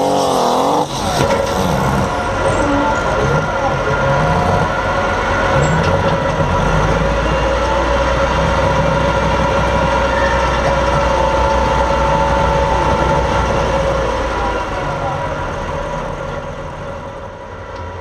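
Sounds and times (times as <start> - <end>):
high engine whine: 0.0 - 18.0
pulling tractor engine rumbling: 0.0 - 18.0.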